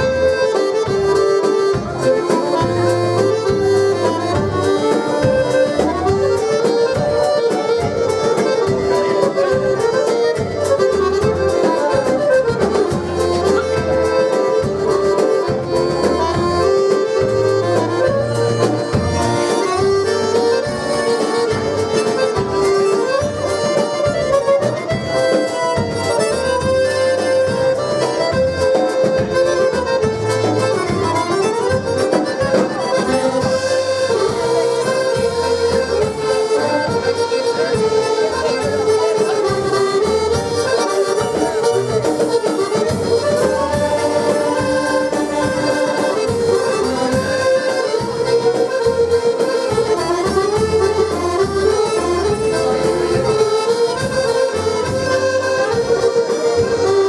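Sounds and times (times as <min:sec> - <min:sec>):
button accordions playing dance tune: 0:00.0 - 0:57.0.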